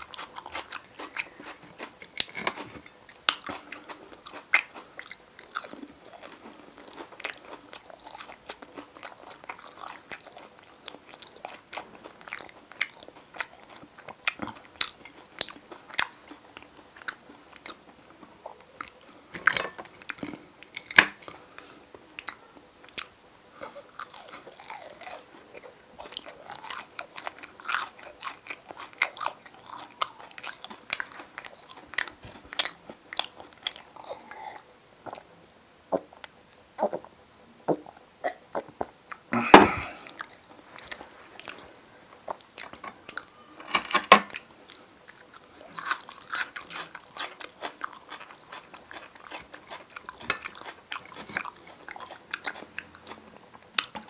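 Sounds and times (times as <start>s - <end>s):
person chewing wetly: 0.0s - 35.3s, 35.9s - 43.5s, 44.3s - 54.0s.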